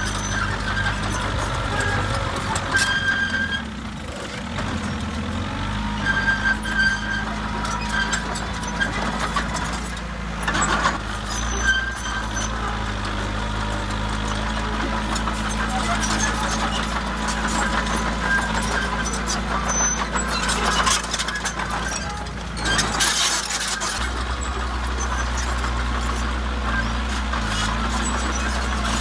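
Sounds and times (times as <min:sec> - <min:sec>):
steel tracks squealing: 0:00.0 - 0:03.8, 0:04.7 - 0:29.0
bulldozer diesel engine running: 0:00.0 - 0:29.0.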